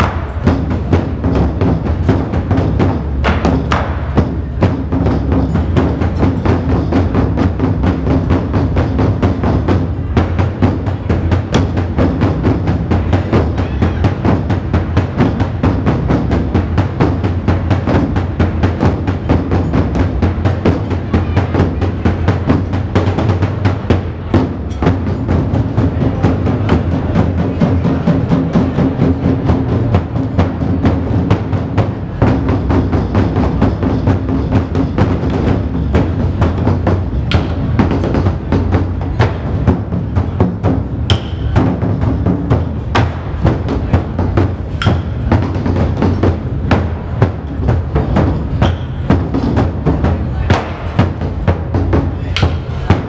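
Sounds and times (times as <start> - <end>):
large drums beating: 0.0 - 53.0.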